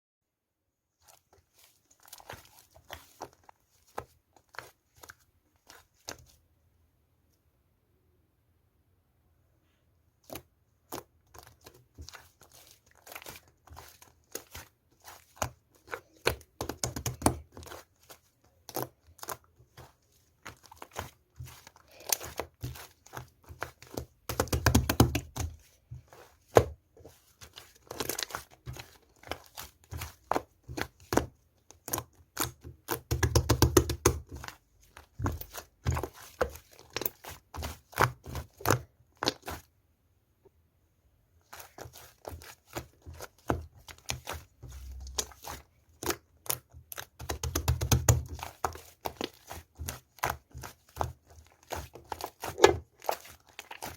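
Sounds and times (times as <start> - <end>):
slime squelching and popping: 1.0 - 6.4, 10.2 - 39.8, 41.4 - 53.9.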